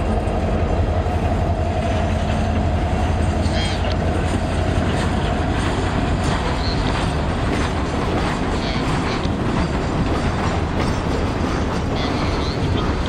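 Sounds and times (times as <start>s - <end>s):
freight train rumbling by: 0.0s - 13.0s
train wheels clicking and knocking: 0.0s - 13.0s.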